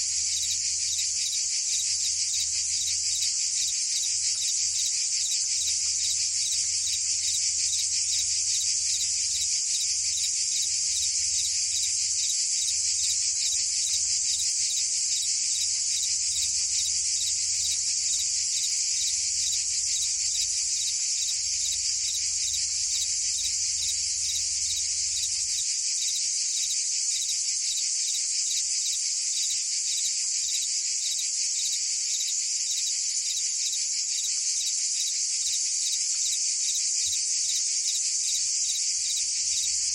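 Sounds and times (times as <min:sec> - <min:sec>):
cicadas and crickets trilling: 0:00.0 - 0:39.9.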